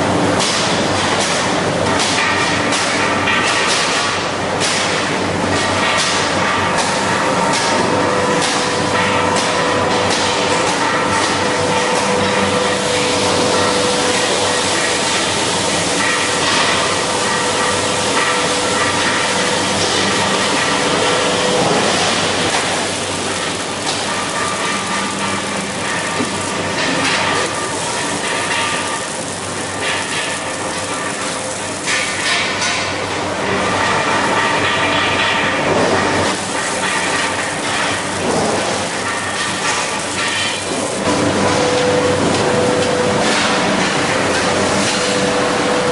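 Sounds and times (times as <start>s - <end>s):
steady machine hum: 0.0s - 45.9s
welding arc crackling and spitting: 0.3s - 45.8s.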